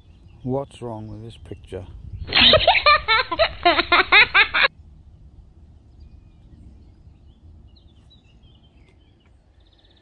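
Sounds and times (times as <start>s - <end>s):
wind noise on microphone: 0.0s - 9.8s.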